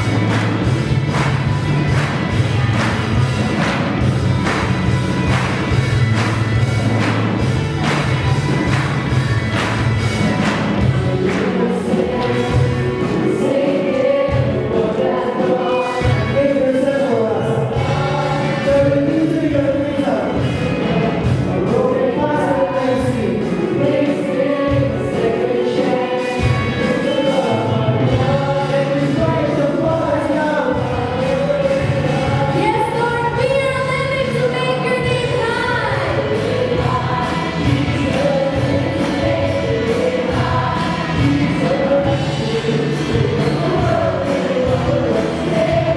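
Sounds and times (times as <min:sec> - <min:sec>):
choir singing gospel song: 0:00.0 - 0:45.9.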